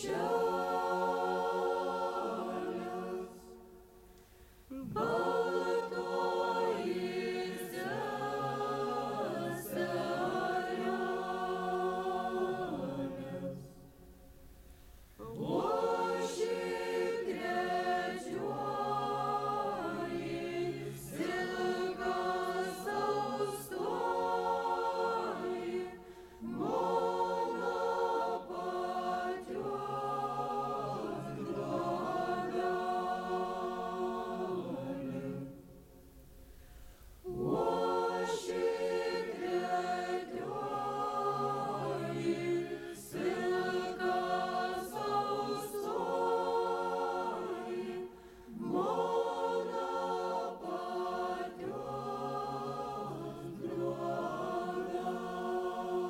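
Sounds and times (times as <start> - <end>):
choir singing folk song: 0.0 - 56.0.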